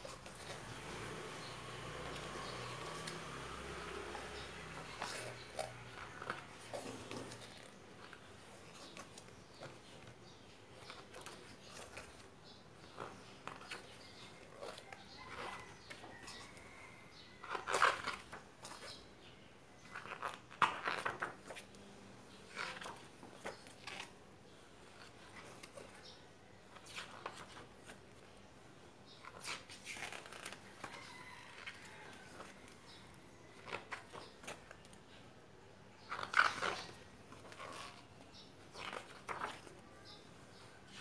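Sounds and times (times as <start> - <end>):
book pages turning: 0.0 - 19.0, 19.8 - 24.2, 24.8 - 26.1, 26.7 - 28.3, 29.2 - 35.0, 36.0 - 41.0.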